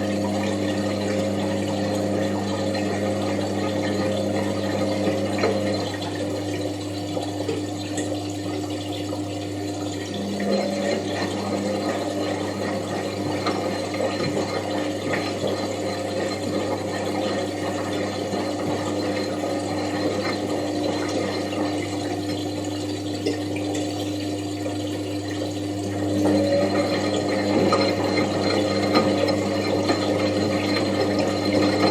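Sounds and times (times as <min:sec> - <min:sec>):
washing machine running: 0:00.0 - 0:31.9
water noise: 0:00.0 - 0:31.9.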